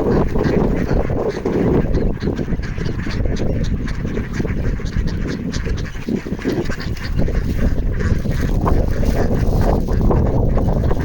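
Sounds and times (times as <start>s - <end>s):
ducks quacking: 0.0s - 11.0s
wind rumbling on microphone: 0.0s - 11.0s.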